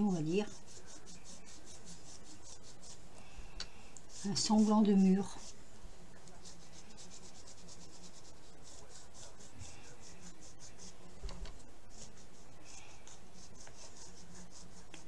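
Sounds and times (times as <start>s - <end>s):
ink dauber scratching on paper: 0.0s - 3.3s, 4.1s - 15.0s.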